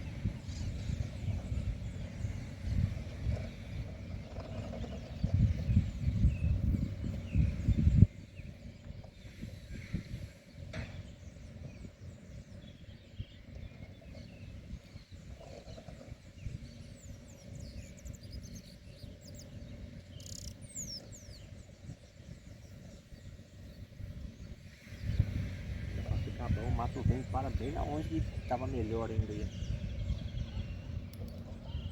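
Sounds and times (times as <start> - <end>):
birds chirping: 0.0 - 31.9
steady low rumble: 0.0 - 31.9.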